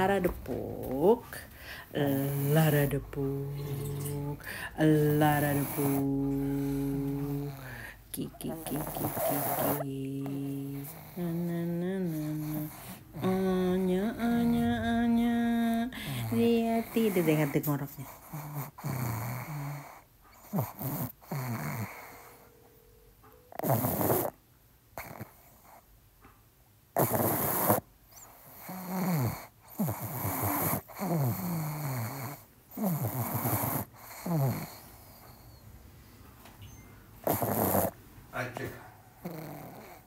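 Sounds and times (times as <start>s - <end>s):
dog snoring: 0.0s - 22.6s, 23.5s - 24.4s, 25.0s - 25.9s, 26.9s - 35.7s, 37.2s - 40.0s.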